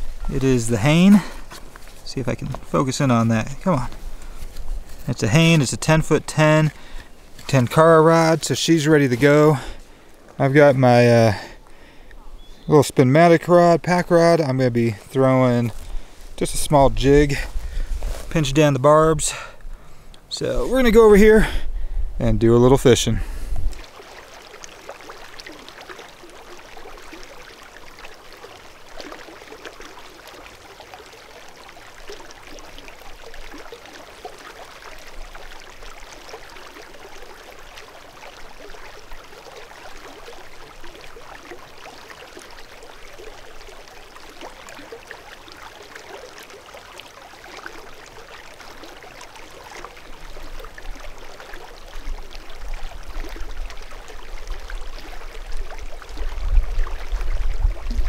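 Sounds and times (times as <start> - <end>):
creek trickling and gurgling: 0.0 - 58.0.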